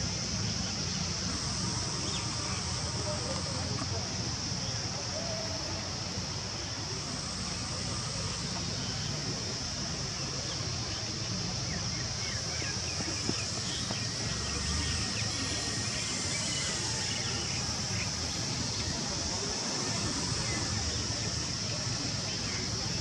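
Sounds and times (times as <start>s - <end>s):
high-pitched insect drone: 0.0s - 23.0s
faint chirps: 0.2s - 23.0s.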